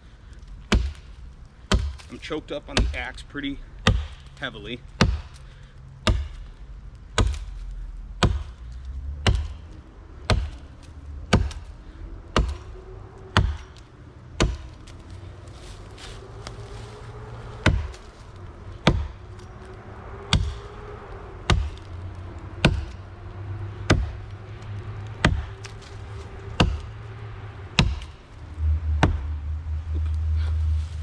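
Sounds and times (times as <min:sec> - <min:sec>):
axe chopping hollow tree trunk: 0:00.6 - 0:03.2, 0:03.8 - 0:22.0, 0:22.6 - 0:27.0, 0:27.8 - 0:28.2, 0:28.9 - 0:29.4.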